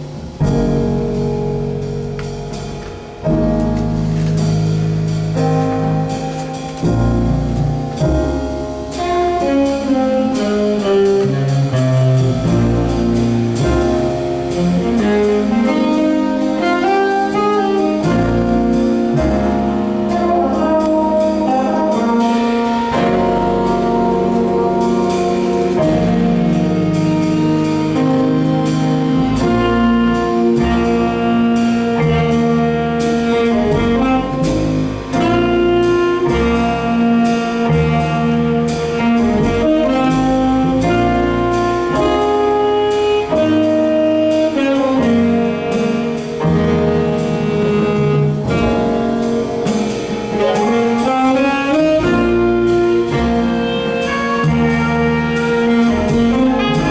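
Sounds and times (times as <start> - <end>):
big-band jazz playing live: 0.0 - 56.9
saxophones: 8.9 - 56.9.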